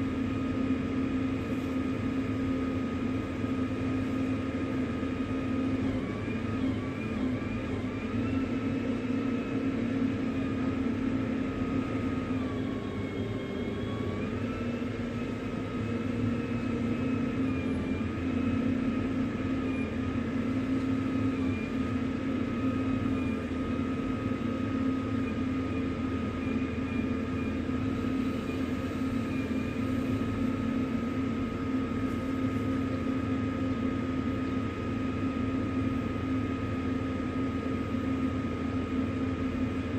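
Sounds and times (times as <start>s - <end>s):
machine drone with whine: 0.0s - 39.9s.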